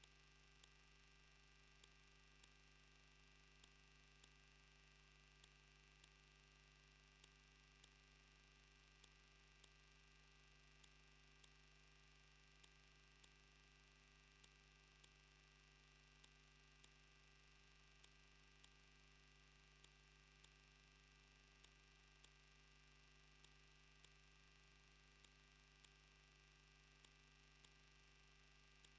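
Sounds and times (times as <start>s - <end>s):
faint electrical hum: 0.0s - 28.9s
faint sharp ticks: 0.0s - 28.9s.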